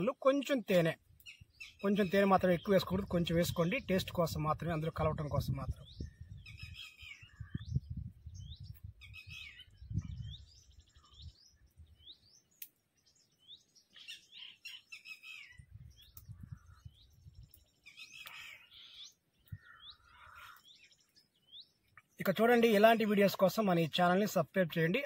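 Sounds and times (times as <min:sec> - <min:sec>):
birds chirping: 0:00.0 - 0:25.0
bird chatter: 0:01.2 - 0:23.8.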